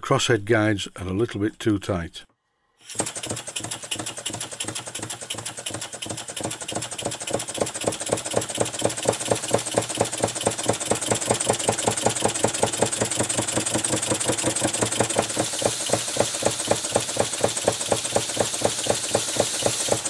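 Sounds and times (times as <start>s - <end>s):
model steam engine running: 2.8s - 20.0s.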